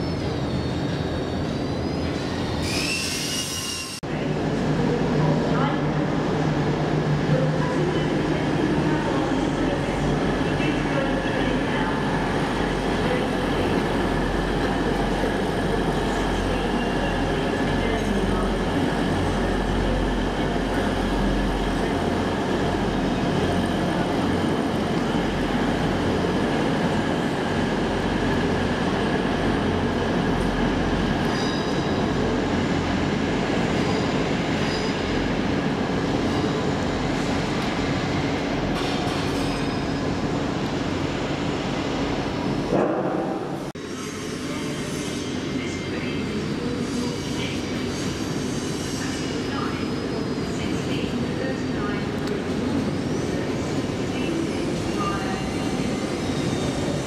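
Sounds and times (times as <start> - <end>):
train rumble and hum: 3.8 - 57.0.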